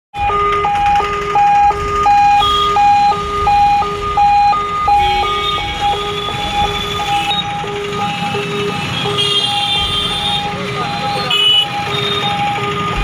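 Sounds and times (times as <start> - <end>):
ambulance siren: 0.2 - 13.0
road traffic rumble: 0.2 - 13.0.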